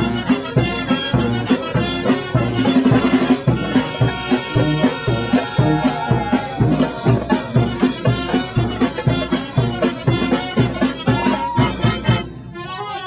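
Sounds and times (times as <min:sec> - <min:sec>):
music with steady drum beat: 0:00.0 - 0:12.6.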